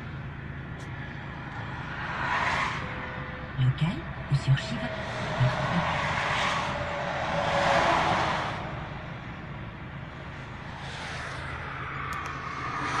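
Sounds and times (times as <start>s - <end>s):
jet airliner roar: 0.0s - 13.0s.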